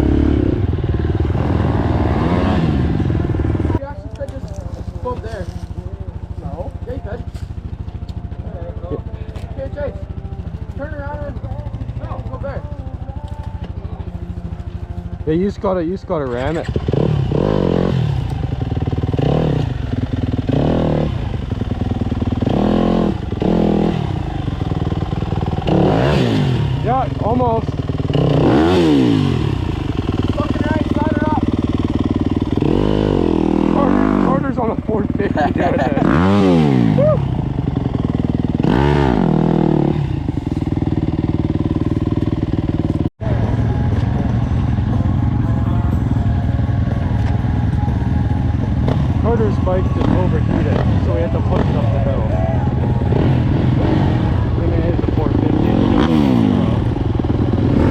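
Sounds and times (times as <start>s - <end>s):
dirt bike engine revving: 0.0s - 3.8s, 15.2s - 57.9s.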